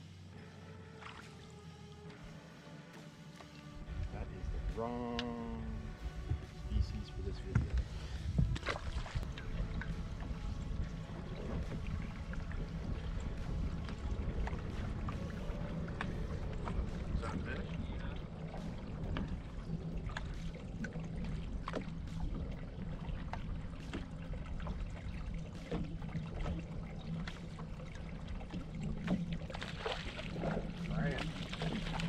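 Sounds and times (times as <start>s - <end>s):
steady low hum: 0.0s - 32.0s
waves lapping against boat hull: 3.3s - 32.0s.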